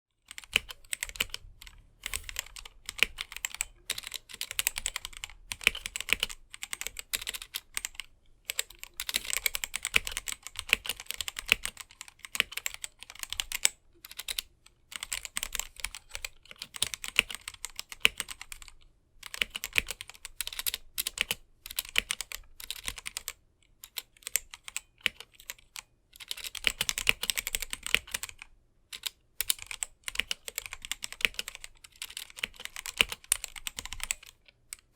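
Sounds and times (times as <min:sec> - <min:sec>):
mechanical keyboard key clacks: 0:00.3 - 0:34.9.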